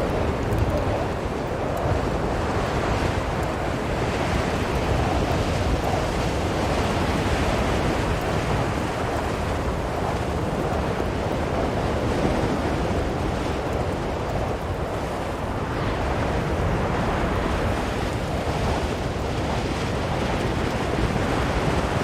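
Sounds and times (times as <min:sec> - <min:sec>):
blizzard wind blowing: 0:00.0 - 0:22.0.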